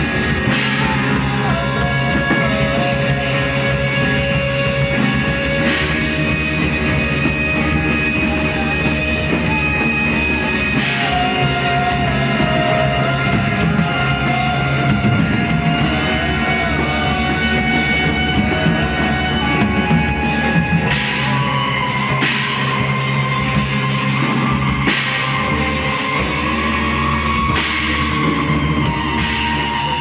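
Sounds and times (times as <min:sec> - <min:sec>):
held drone tones: 0:00.0 - 0:30.0.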